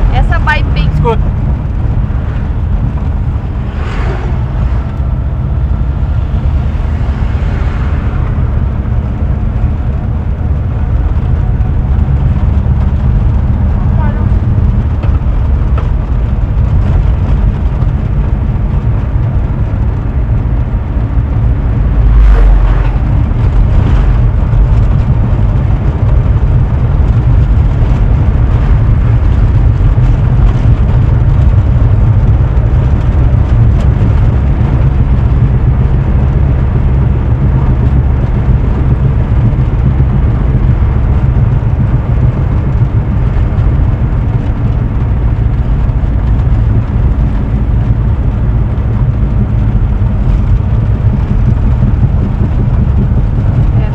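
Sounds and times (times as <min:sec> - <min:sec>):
vehicle road rumble from inside: 0:00.0 - 0:53.9.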